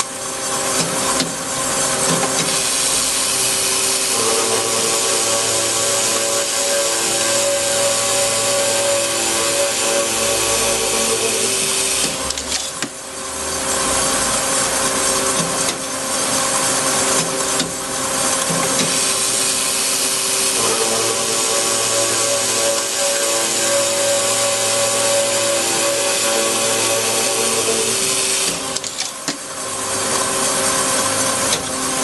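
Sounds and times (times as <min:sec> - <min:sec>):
circular saw cutting metal: 0:00.0 - 0:32.0
machine hum: 0:00.0 - 0:32.0.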